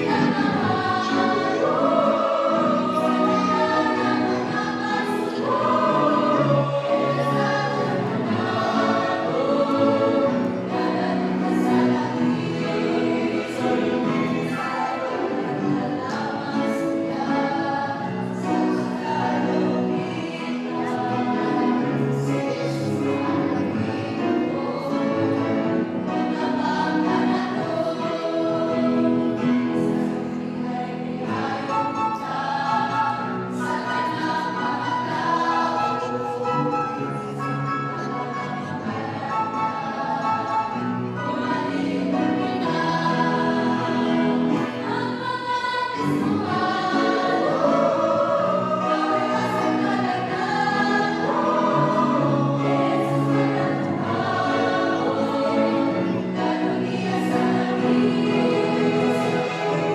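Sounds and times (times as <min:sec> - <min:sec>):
mixed choir singing a hymn: 0:00.0 - 0:59.9.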